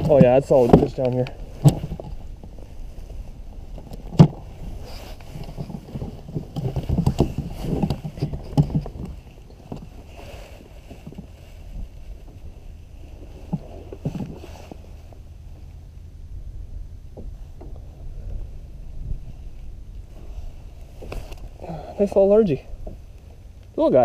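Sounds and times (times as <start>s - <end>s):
low wind noise: 0.0s - 24.0s
rustles: 0.0s - 24.0s.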